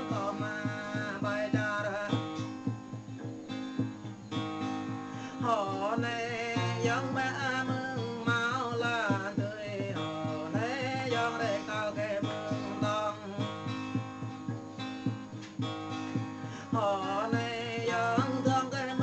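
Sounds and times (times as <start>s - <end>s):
song with plucked strings: 0.0s - 19.0s.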